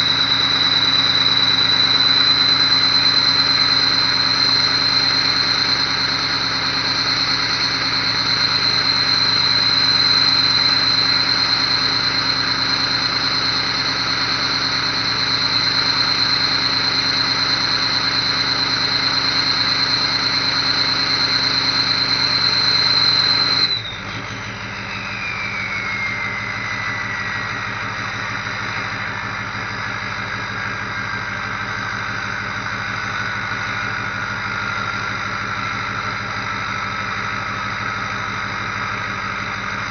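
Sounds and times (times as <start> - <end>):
diesel engine idling: 0.0 - 39.9
turbo whistle: 0.0 - 39.9.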